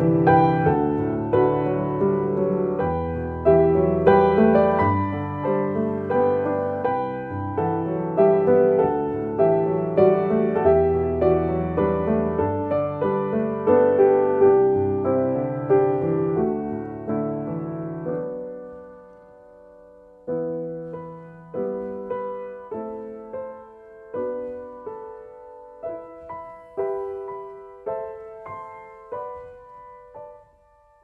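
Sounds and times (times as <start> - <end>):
slow gentle solo piano: 0.0 - 31.0.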